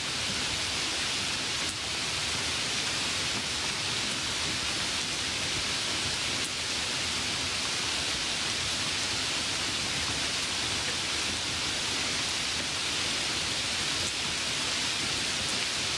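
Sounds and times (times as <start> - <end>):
steady hiss: 0.0 - 15.9.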